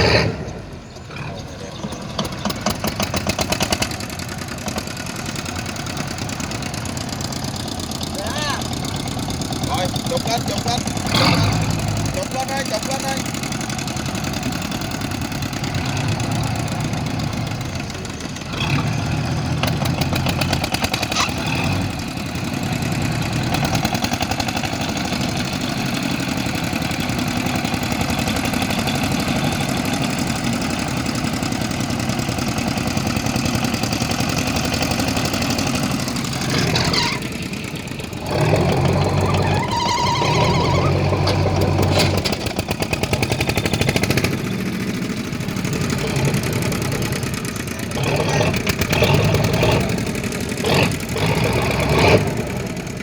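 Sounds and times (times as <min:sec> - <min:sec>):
tugboat engine running: 0:00.0 - 0:53.0.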